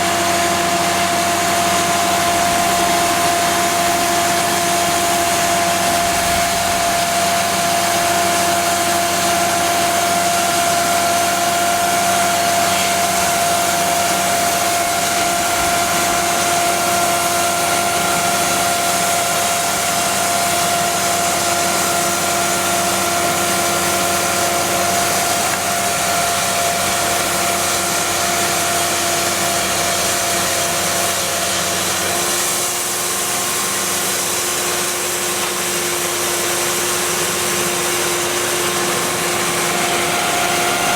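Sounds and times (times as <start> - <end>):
band sawmill whining: 0.0 - 40.9.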